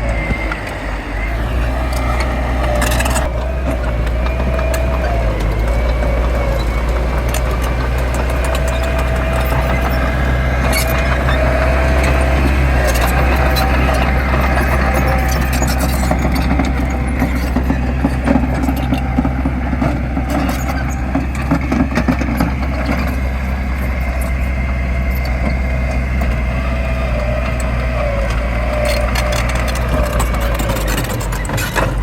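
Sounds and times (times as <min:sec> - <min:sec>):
diesel engine of heavy machinery: 0:00.0 - 0:32.0.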